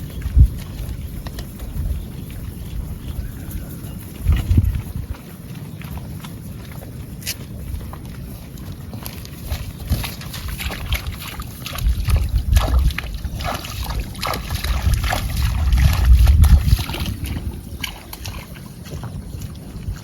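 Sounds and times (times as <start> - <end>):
cattle splashing through water: 0.0 - 20.0
wind rumble on microphone: 0.0 - 20.0.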